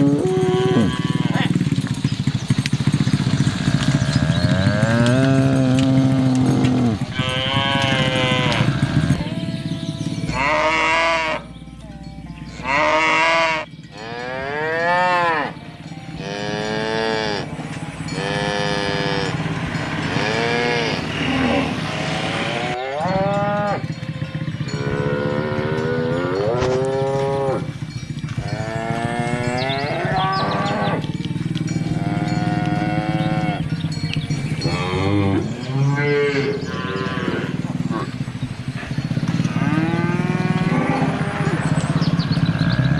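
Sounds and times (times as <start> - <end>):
cattle mooing: 0.0 - 2.0, 2.6 - 11.6, 12.4 - 24.0, 24.6 - 42.9.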